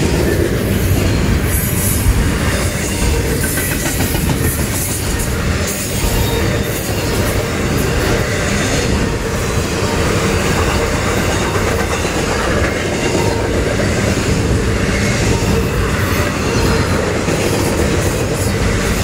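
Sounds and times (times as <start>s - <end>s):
freight train wheels rumbling and rattling: 0.0s - 19.0s.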